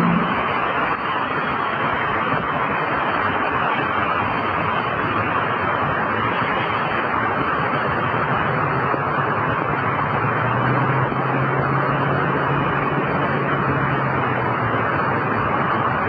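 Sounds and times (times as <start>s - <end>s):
low engine hum: 0.0s - 16.0s
road vehicle noise: 0.0s - 16.0s.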